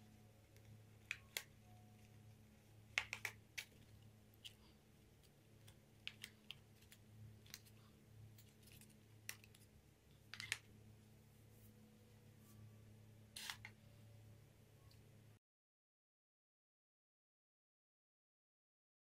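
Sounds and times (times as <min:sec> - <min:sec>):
low steady hum: 0:00.0 - 0:15.4.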